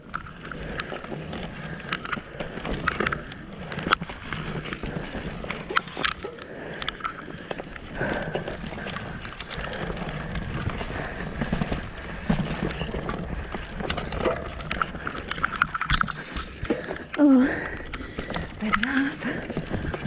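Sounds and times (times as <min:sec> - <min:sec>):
bike clattering over bumps: 0:00.0 - 0:20.0
bike tyres rolling over dirt: 0:00.0 - 0:20.0.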